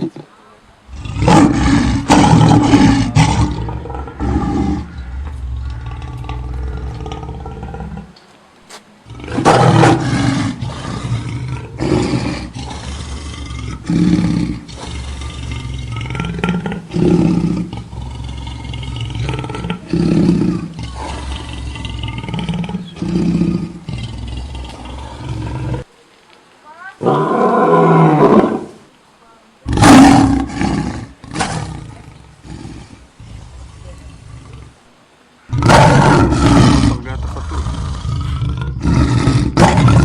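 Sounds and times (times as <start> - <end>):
lion roaring: 0.8 - 8.2, 9.0 - 25.9, 27.0 - 28.9, 29.6 - 34.9, 35.5 - 40.0.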